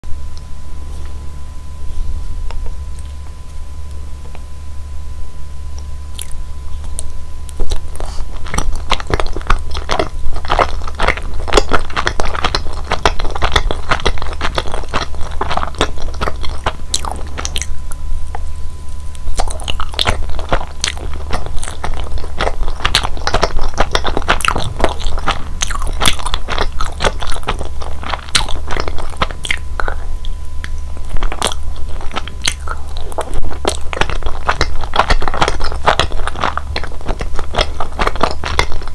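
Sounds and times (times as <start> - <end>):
sticky chewing with mouth clicks: 6.1 - 38.9.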